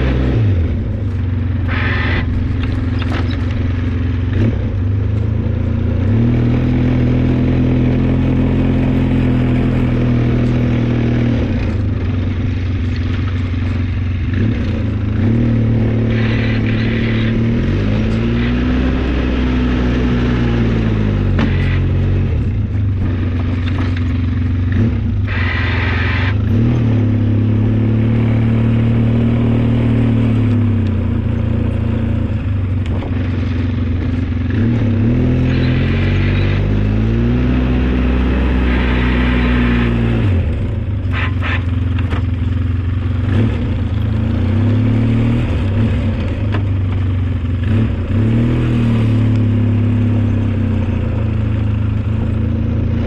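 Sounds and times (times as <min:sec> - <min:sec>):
snowplow engine revving: 0:00.0 - 0:53.0.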